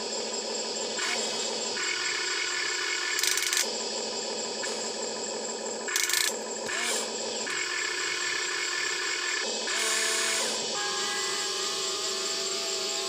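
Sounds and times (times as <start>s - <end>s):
small electric motors whirring: 0.0s - 13.0s.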